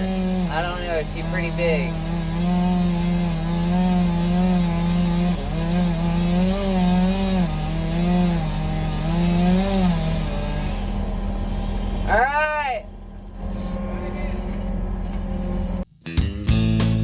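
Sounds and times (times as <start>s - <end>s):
chainsaw cutting tree trunk: 0.0s - 15.8s.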